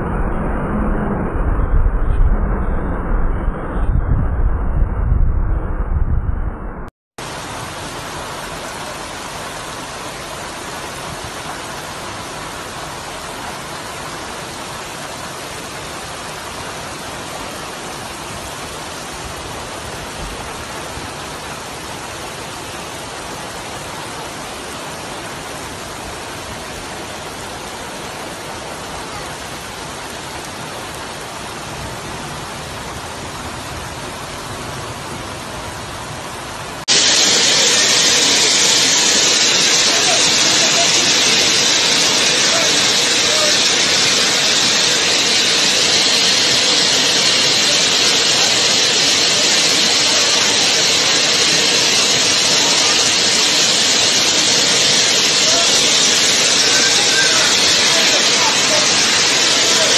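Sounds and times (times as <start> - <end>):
waterfalls rushing down rocks: 7.2 - 59.9.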